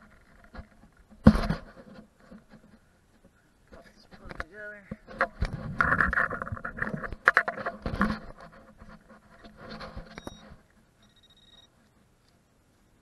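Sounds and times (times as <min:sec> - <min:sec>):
scraping of loose dirt: 0:00.0 - 0:10.9.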